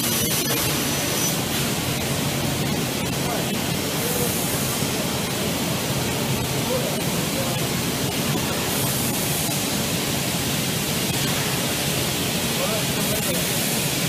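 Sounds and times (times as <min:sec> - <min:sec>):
factory machinery hissing: 0:00.0 - 0:14.0.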